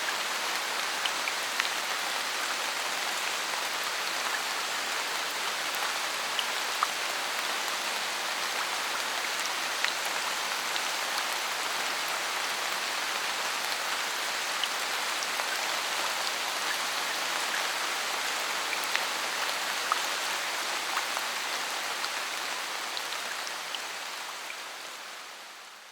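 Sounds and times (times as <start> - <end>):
steady rain in forest: 0.0 - 25.9.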